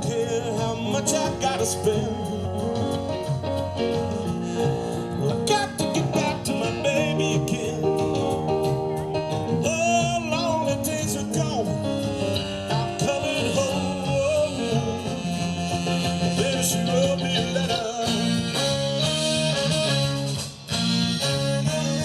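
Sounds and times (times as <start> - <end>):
person singing: 0.0 - 20.0, 20.8 - 22.0
guitar: 0.0 - 22.0
steady drum beat: 0.0 - 22.0.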